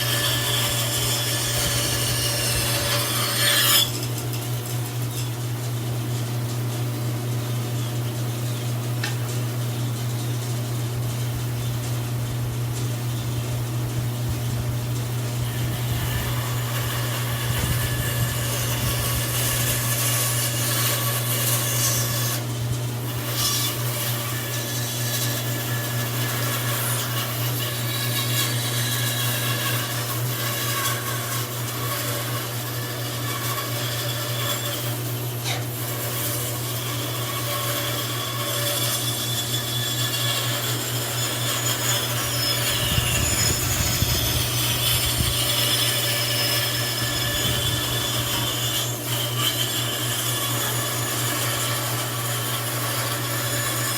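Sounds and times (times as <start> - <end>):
saw blade rasping through wood: 0.0 - 5.4, 15.2 - 53.9
bandsaw motor hum: 0.0 - 53.9.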